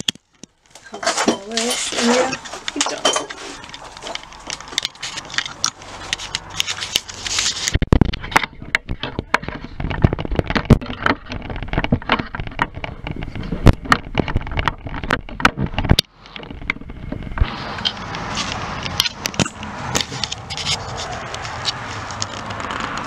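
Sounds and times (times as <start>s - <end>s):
crackles scrapes and knocks: 0.0s - 23.0s.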